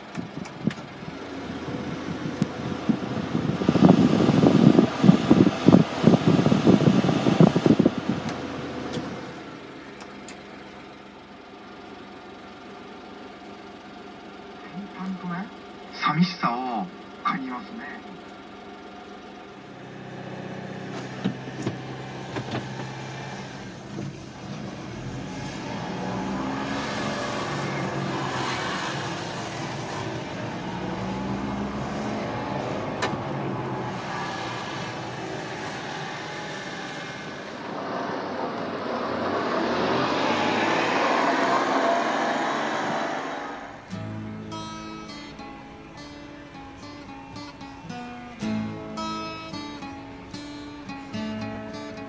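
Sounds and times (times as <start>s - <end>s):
road noise: 0.0s - 52.0s
small truck engine running: 0.0s - 52.0s.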